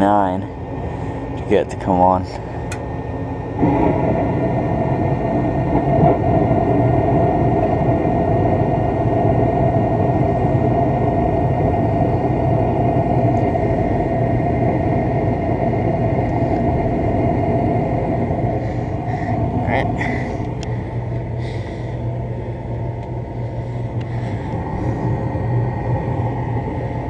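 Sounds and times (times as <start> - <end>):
furnace fan motor humming: 0.0 - 27.0.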